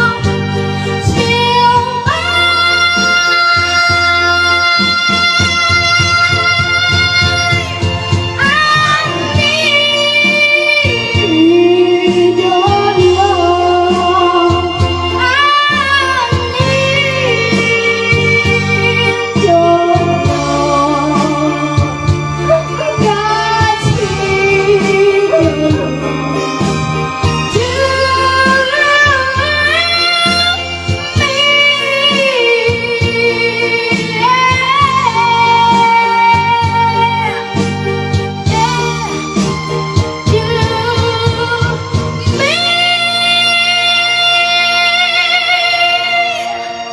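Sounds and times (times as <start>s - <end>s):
high singing voice: 0.0s - 46.9s
instrumental backing with beat: 0.0s - 46.9s
song with gliding sung melody: 0.0s - 46.9s.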